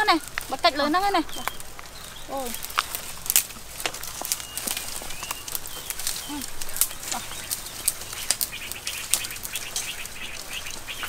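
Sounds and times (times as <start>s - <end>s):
branches cracking and snapping: 0.0s - 11.0s
dry brush rustling: 0.0s - 11.0s.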